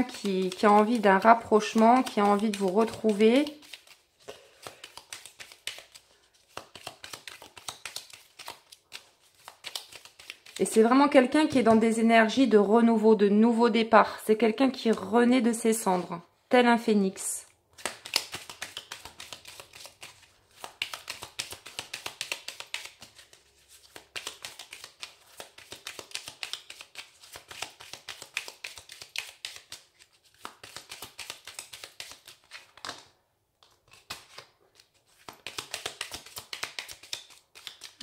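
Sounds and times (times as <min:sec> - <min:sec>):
cards being shuffled: 0:00.0 - 0:10.8, 0:17.7 - 0:38.0.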